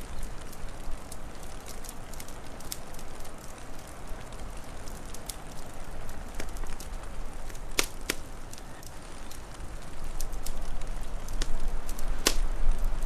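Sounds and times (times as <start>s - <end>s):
fire cracks: 0.0s - 13.0s
wood fire crackling: 0.0s - 13.0s.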